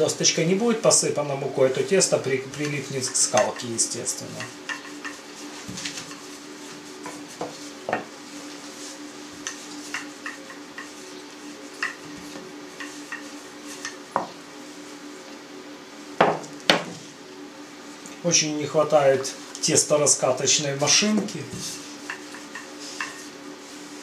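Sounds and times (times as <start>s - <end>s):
rolling pin rolling dough: 0.0s - 15.3s, 19.6s - 24.0s.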